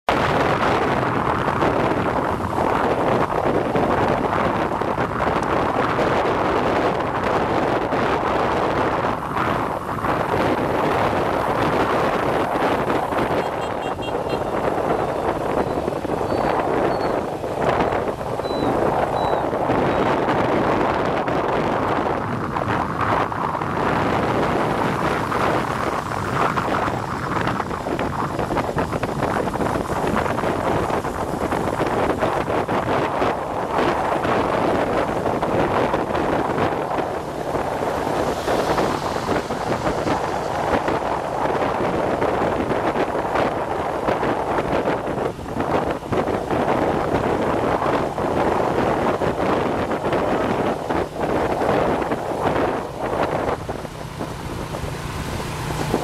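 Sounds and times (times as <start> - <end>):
vehicle running noise: 0.0 - 56.0
wind rushing over microphone: 0.0 - 56.0.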